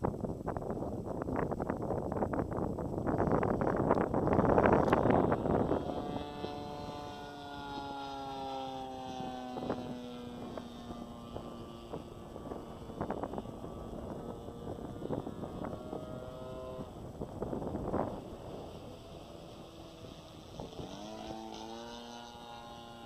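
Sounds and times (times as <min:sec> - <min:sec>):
model plane engine droning overhead: 0:00.0 - 0:23.0
wind gusts on microphone: 0:00.0 - 0:23.0.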